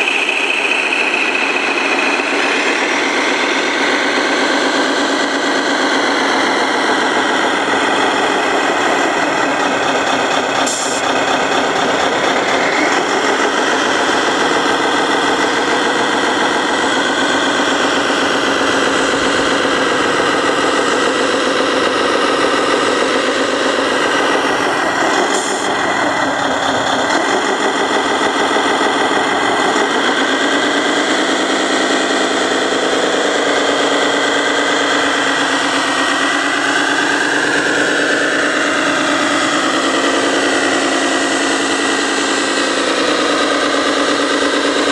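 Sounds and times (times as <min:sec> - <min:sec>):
model truck engine running: 0:00.0 - 0:44.9.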